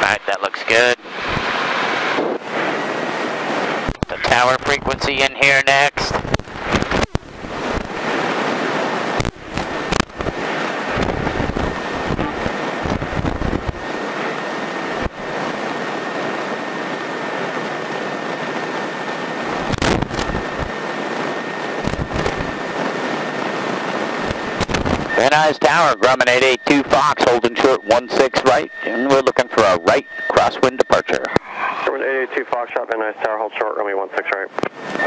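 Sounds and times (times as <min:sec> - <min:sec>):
faint high whine: 0:00.0 - 0:35.0
light aircraft engine and propeller: 0:00.0 - 0:35.0.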